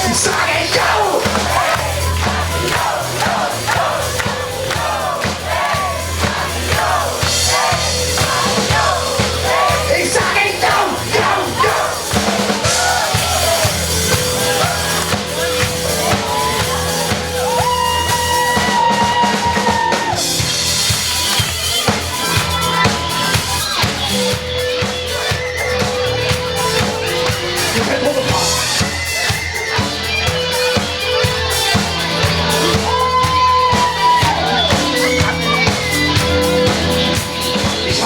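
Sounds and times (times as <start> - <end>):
drum kit beat: 0.0 - 38.0
live rock band playing: 0.0 - 38.0.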